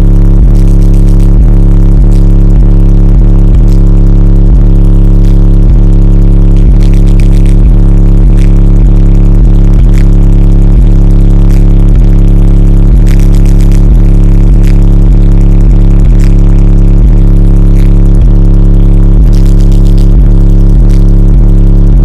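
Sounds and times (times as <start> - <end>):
bass-heavy music through subwoofer: 0.0 - 22.0.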